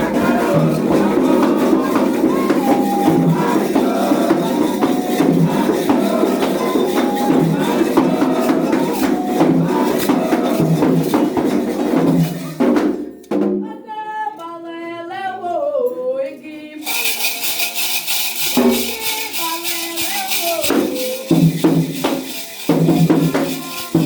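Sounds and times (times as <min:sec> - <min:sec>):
hand percussion beat: 0:00.0 - 0:13.7, 0:16.8 - 0:24.0
group singing: 0:00.0 - 0:24.0
single voice singing: 0:00.0 - 0:24.0.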